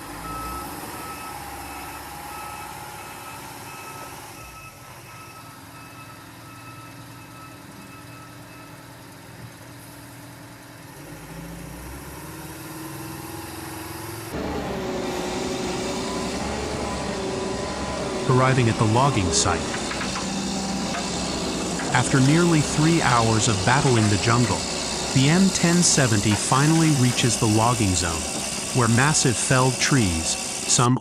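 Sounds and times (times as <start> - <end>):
reversing alarm beeping: 0.0 - 9.1, 14.4 - 31.0
heavy truck engine running: 0.0 - 31.0.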